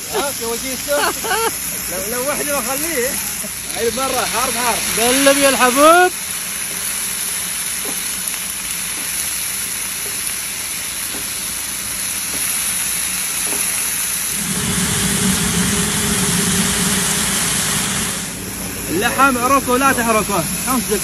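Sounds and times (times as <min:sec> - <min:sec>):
meat sizzling on griddle: 0:00.0 - 0:21.0.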